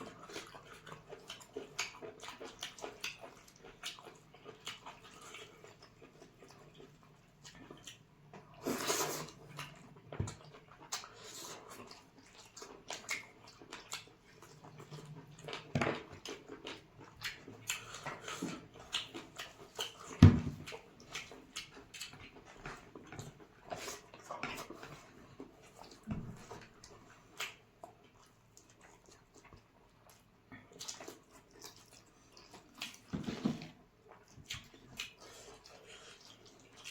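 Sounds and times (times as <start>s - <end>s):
chewing and lip-smacking: 0.0s - 33.1s, 33.7s - 36.9s.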